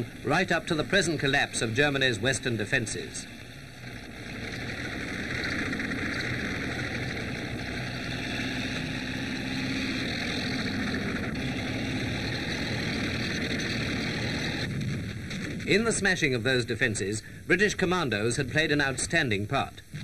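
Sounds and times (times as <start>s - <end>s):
film soundtrack hiss: 0.0s - 20.0s
steady engine drone: 0.0s - 20.0s.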